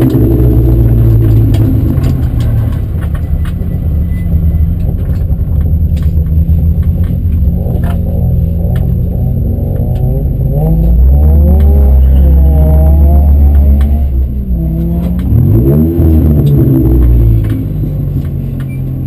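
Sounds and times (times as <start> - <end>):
car engine idling: 0.0 - 19.0
sharp clicks and rattles: 0.0 - 19.0.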